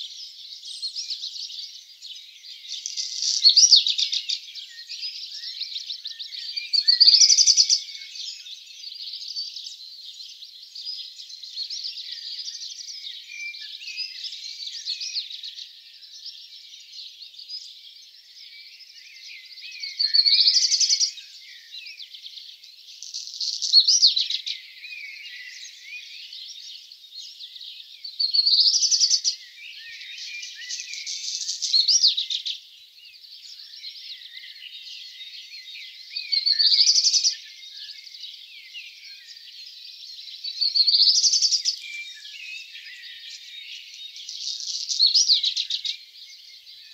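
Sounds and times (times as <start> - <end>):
distant bird chirps and trills: 0.0 - 46.9
nearby birdsong phrases: 0.0 - 46.9.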